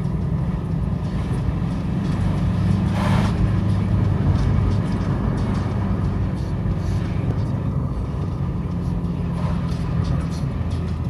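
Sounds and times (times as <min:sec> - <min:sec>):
diesel engine drone inside car: 0:00.0 - 0:11.0.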